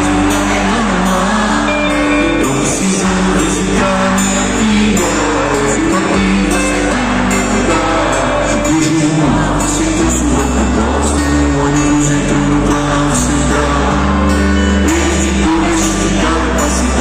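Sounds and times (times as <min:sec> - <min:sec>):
live rock band playing: 0:00.0 - 0:17.0
person singing: 0:00.0 - 0:17.0.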